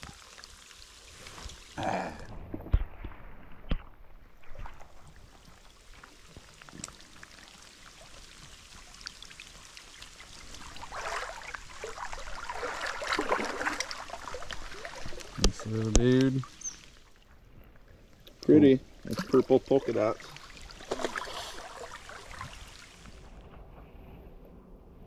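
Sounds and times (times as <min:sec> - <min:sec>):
creek water splashing: 0:00.0 - 0:23.4.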